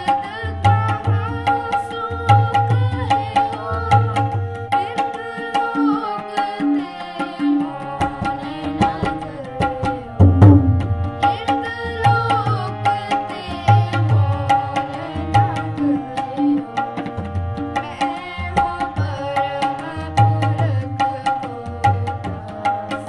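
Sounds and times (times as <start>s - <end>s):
harmonium reedy melody: 0.0s - 23.0s
tabla rhythm: 0.0s - 23.0s.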